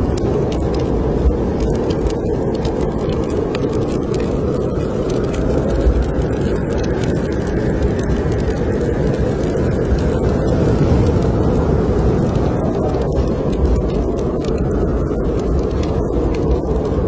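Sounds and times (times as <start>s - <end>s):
strong wind blowing: 0.0s - 17.0s
wood fire crackling: 0.0s - 17.0s.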